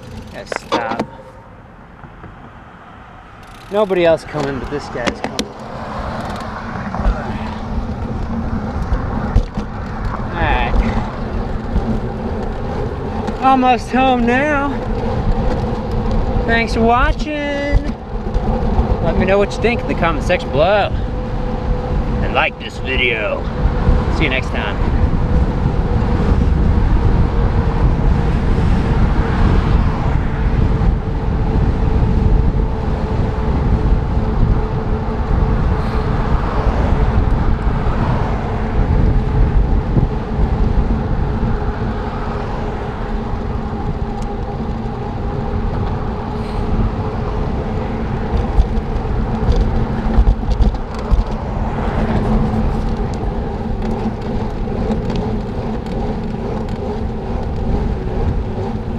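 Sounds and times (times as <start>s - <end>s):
bicycle road noise rumble: 0.0s - 58.9s
wind on microphone: 0.0s - 58.9s.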